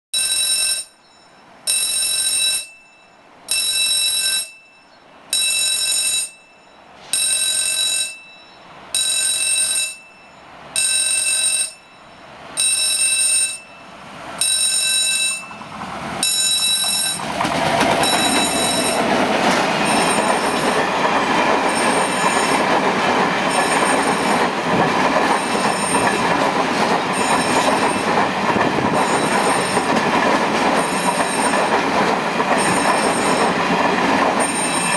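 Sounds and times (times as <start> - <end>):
freight train wheel-and-rail noise: 0.2 - 34.9
level-crossing warning bell: 0.2 - 34.9.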